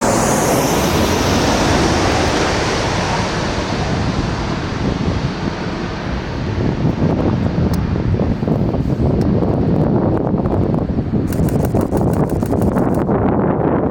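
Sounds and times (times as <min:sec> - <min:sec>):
jet engines passing: 0:00.0 - 0:13.1.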